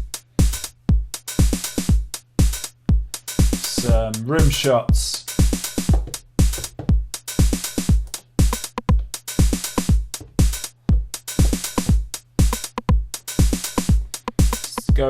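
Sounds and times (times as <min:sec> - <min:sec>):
deep kick drum: 0:00.0 - 0:15.0
hi-hats: 0:00.0 - 0:15.0.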